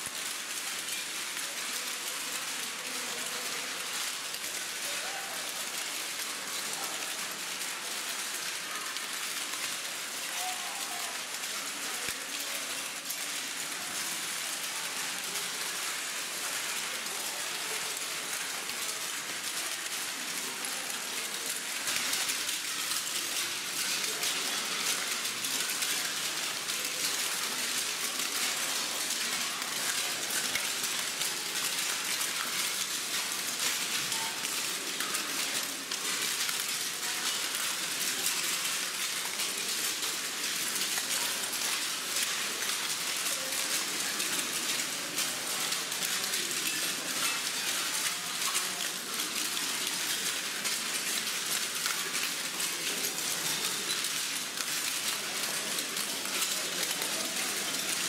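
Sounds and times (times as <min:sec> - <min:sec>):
faint murmur of voices: 0:00.0 - 0:58.0.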